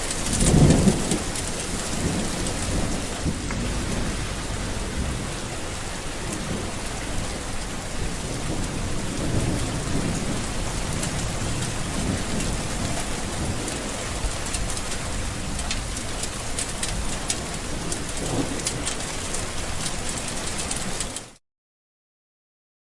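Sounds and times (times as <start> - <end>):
low thunder rumble: 0.0 - 20.2
steady rain: 0.0 - 21.4.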